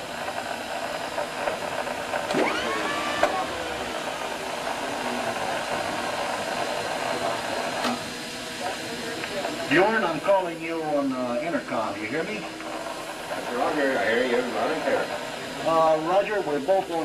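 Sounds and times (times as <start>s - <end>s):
radio equipment whirring hum: 0.0s - 17.0s.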